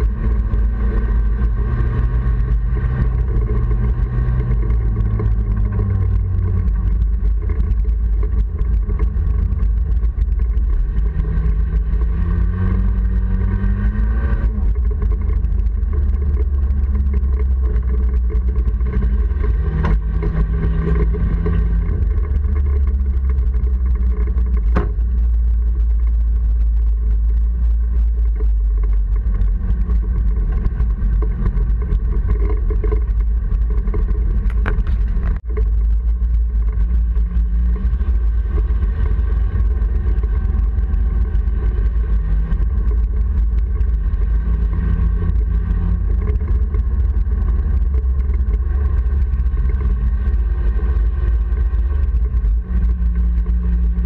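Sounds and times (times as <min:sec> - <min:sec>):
heavy low rumble: 0:00.0 - 0:54.0
race car engine running hard: 0:00.0 - 0:54.0.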